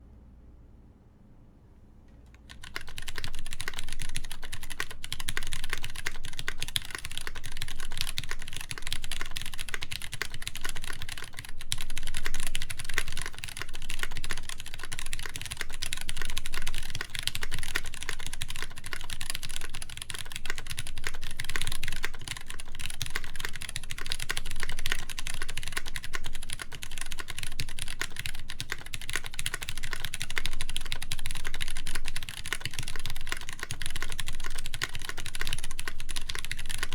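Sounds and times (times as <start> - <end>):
mechanical keyboard typing: 2.3 - 36.9.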